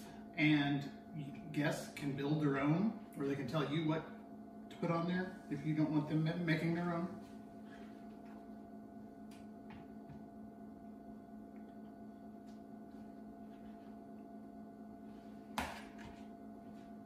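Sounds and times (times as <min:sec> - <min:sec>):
quiet steady hum: 0:00.0 - 0:17.0.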